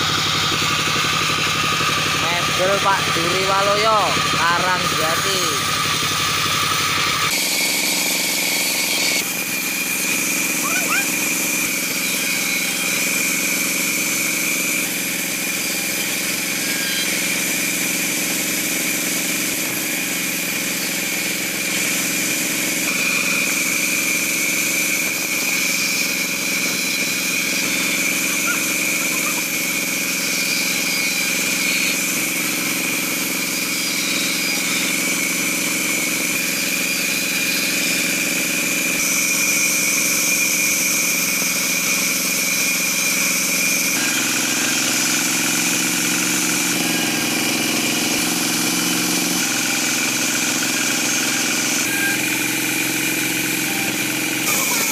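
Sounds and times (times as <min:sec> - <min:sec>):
band saw cutting timber: 0:00.0 - 0:54.9.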